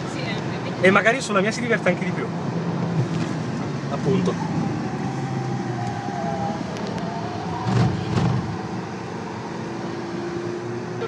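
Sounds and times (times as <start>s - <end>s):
car engine from inside cabin: 0.0s - 11.0s
tyre and road noise: 0.0s - 11.0s.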